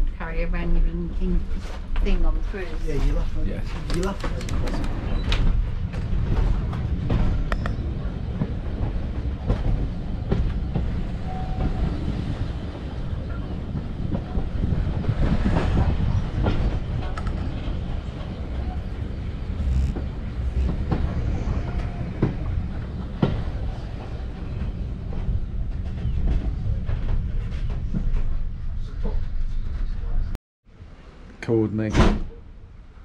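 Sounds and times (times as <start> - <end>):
train coach low rumble: 0.0 - 31.5.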